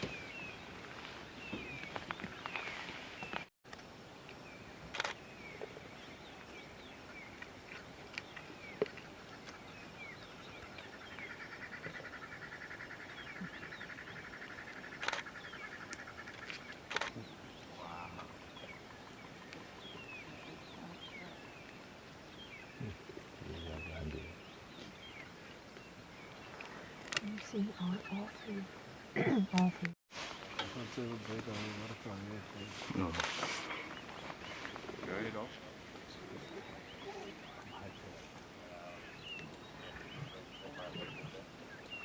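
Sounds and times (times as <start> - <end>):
small birds chirping: 4.2 - 42.0.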